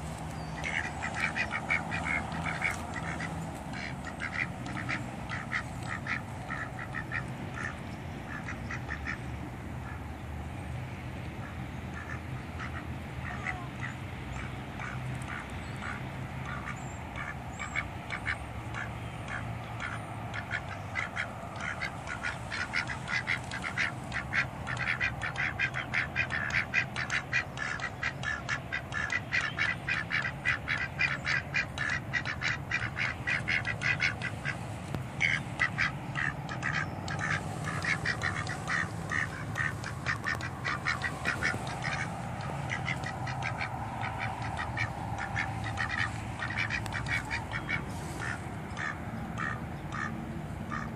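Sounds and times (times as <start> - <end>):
ducks quacking: 0.0 - 10.1, 11.4 - 50.9.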